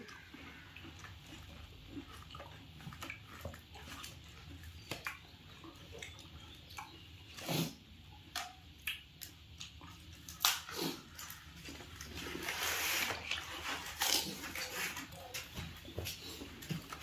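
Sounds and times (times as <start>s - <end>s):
food crunching: 0.0s - 7.1s, 8.2s - 17.0s
wet chewing and squishing: 0.0s - 17.0s.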